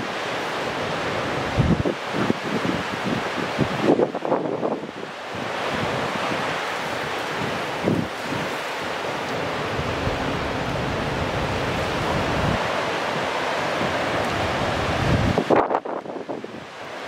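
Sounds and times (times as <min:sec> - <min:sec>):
wind blowing on microphone: 0:00.0 - 0:17.0.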